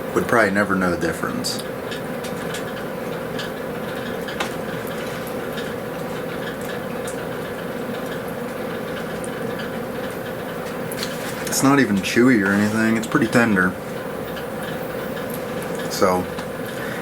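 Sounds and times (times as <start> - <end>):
grill hissing and humming: 0.0 - 17.0
faint crackles: 1.6 - 17.0.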